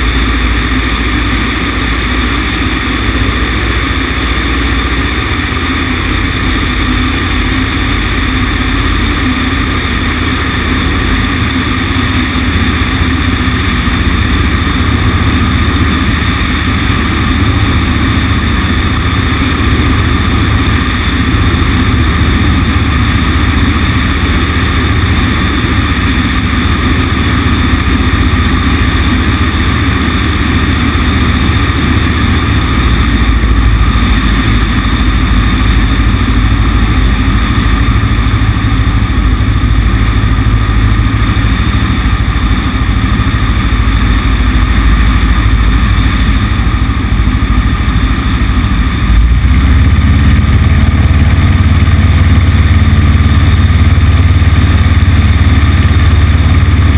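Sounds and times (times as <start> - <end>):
airplane engine and propeller: 0.0 - 56.9.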